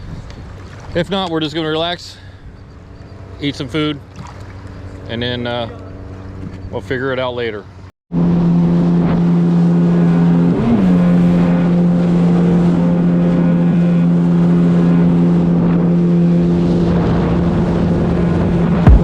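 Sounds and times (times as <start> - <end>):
jet ski engine running: 0.0 - 19.0.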